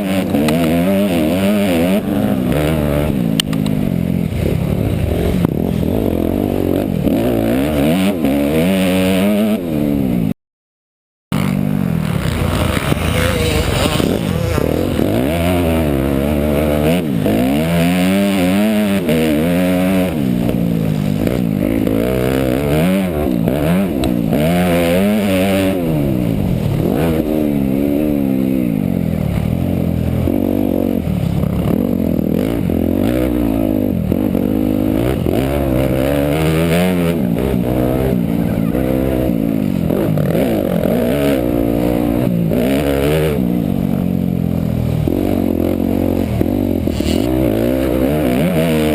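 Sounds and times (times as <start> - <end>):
dirt bike engine revving: 0.0 - 10.4, 11.3 - 48.9.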